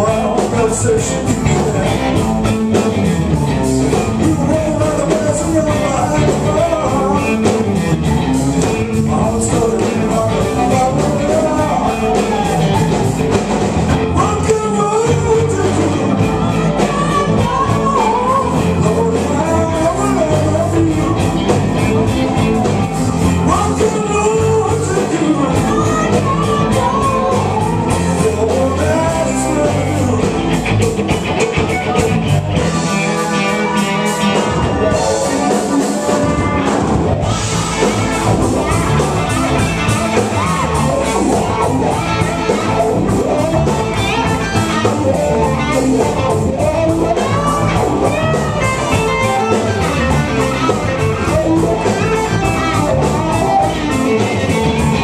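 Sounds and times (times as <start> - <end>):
live blues-rock band playing: 0.0 - 55.0
voices singing along: 8.8 - 30.7, 32.1 - 55.0.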